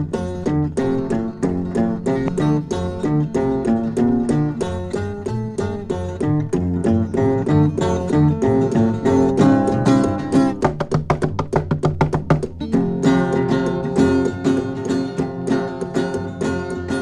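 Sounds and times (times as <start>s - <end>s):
guitar-led instrumental song: 0.0s - 17.0s
rapidly picked guitar notes: 0.0s - 17.0s.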